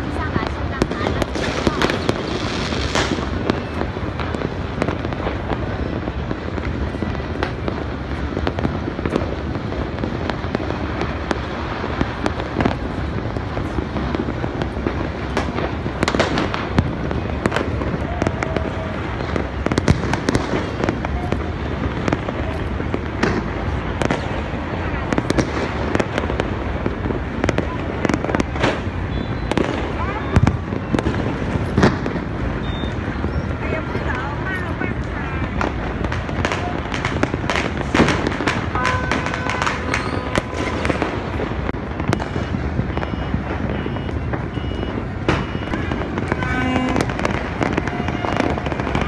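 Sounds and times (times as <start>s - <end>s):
fireworks crackling and popping: 0.0s - 49.0s
sharp firework bangs: 0.0s - 49.0s.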